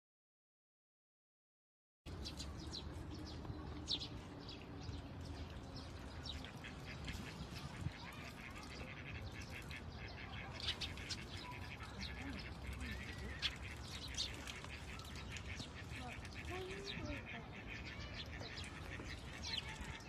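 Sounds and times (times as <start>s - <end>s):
small birds chirping: 2.1s - 20.0s.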